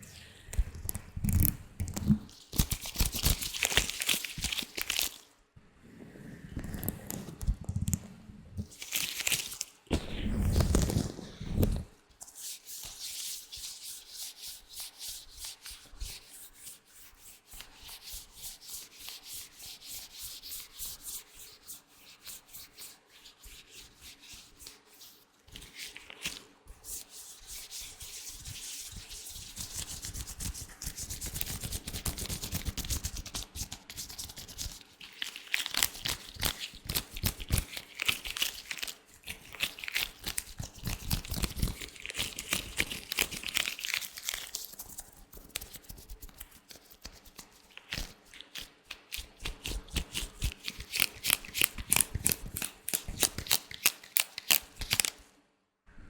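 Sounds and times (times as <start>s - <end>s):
latex gloves rubbing together: 8.6s - 55.2s.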